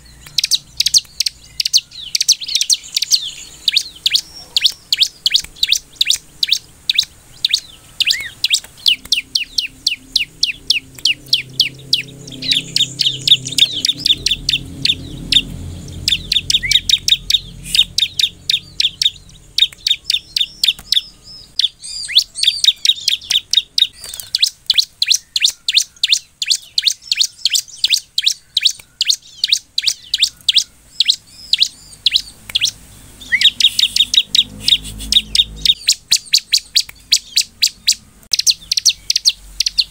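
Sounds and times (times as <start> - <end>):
bird singing sharp chip notes: 0.0 - 39.9.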